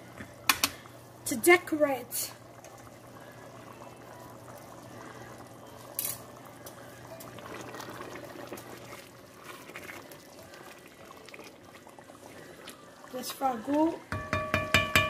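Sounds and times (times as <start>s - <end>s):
tomato sauce bubbling in a pot: 0.2s - 15.0s.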